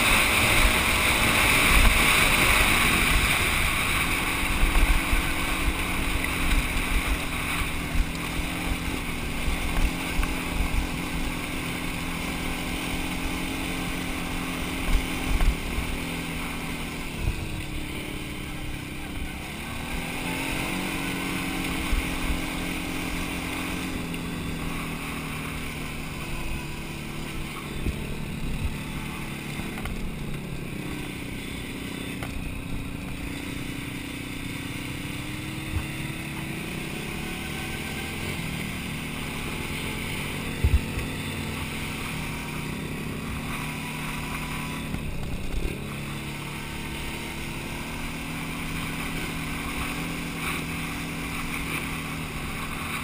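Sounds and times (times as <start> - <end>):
quad bike engine running: 0.0 - 53.0.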